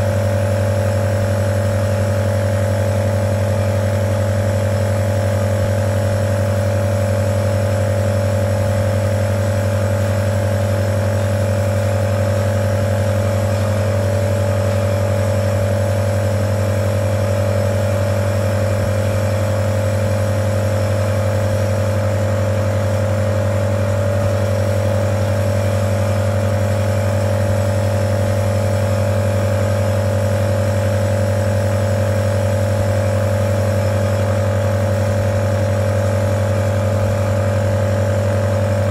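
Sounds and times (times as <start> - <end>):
nebulizer compressor humming: 0.0 - 38.9.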